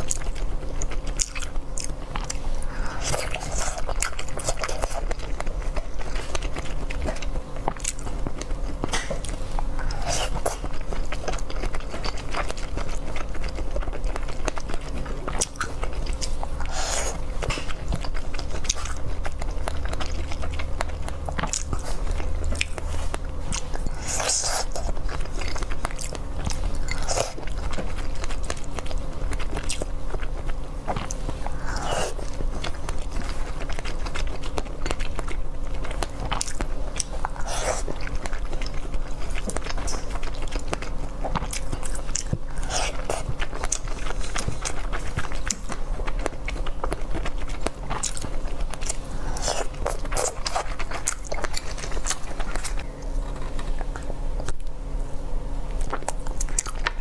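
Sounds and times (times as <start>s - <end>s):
person chewing wetly: 0.0s - 57.0s.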